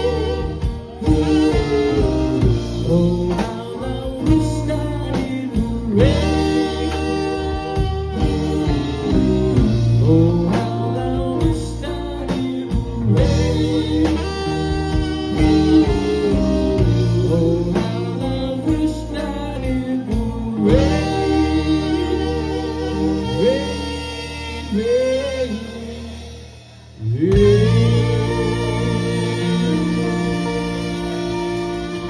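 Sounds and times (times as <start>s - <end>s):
person singing wordlessly: 0.0s - 26.3s, 27.0s - 32.0s
guitar: 0.0s - 32.0s
live band playing soul ballad: 0.0s - 32.0s.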